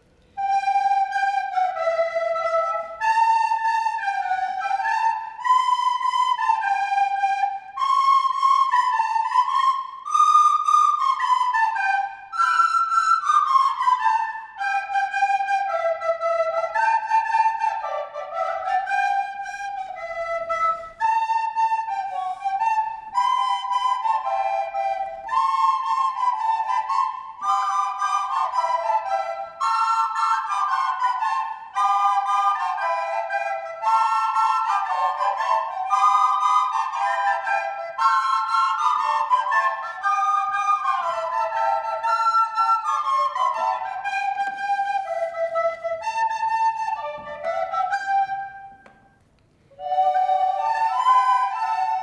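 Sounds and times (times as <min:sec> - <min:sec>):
children playing recorders: 0:00.0 - 0:52.0.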